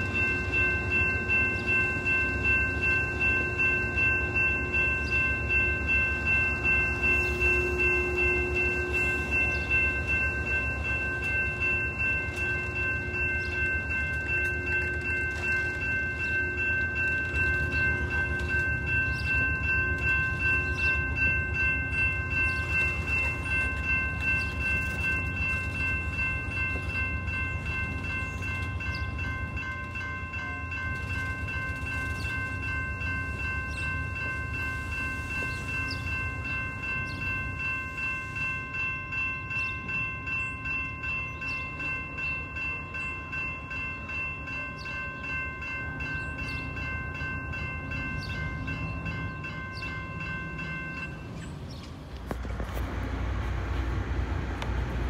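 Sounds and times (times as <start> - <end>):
passing train rumble: 0.0 - 55.0
railroad crossing bell ringing: 0.0 - 55.0.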